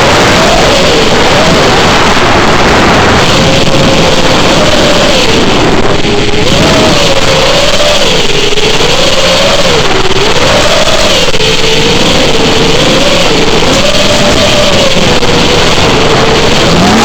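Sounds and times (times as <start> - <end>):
drone motors whining: 0.0 - 17.0
rush of wind: 0.0 - 17.0.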